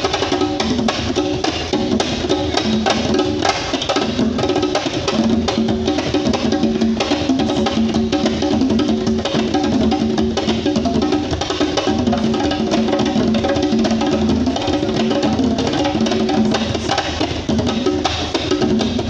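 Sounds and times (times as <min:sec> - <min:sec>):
hand drums playing rhythm: 0:00.0 - 0:19.0.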